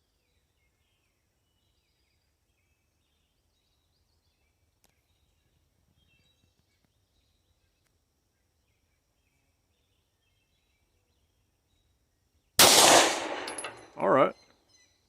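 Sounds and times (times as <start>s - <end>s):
distant birds chirping: 0.4s - 15.0s.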